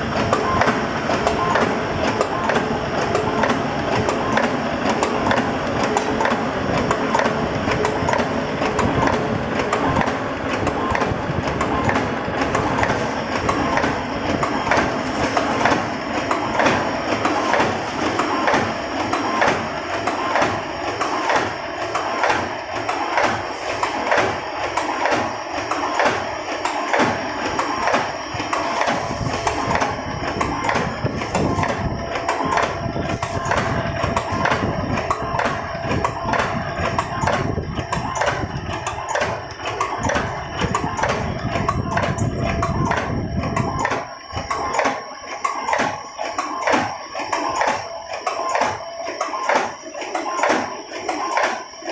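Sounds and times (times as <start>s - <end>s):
machine clacking: 0.0s - 51.9s
mechanical hum: 0.0s - 51.9s.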